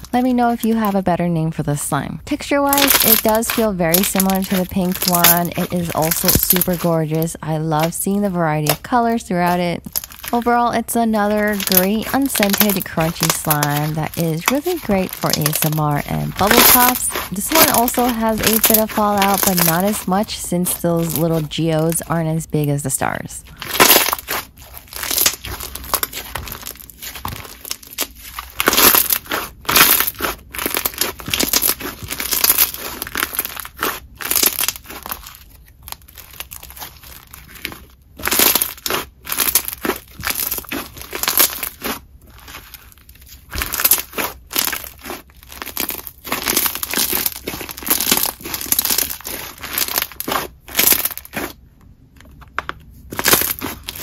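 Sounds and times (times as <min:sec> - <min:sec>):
crunchy slime squished by hand: 0:02.7 - 0:22.1, 0:23.4 - 0:54.0.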